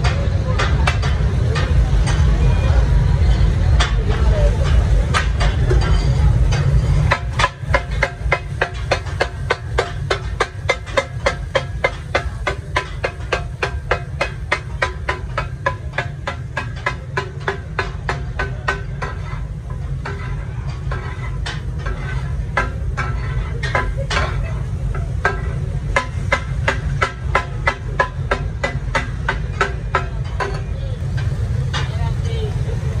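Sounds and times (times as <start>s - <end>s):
metal spatula clanging on griddle: 0.0s - 33.0s
steady low rumble: 0.0s - 33.0s.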